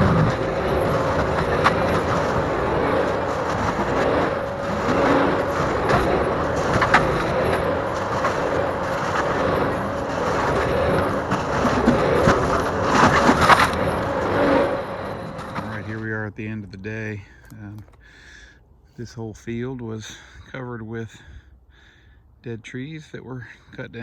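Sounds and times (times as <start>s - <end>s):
loader engine and hydraulic drone: 0.0s - 22.2s
constant whine: 0.0s - 24.0s.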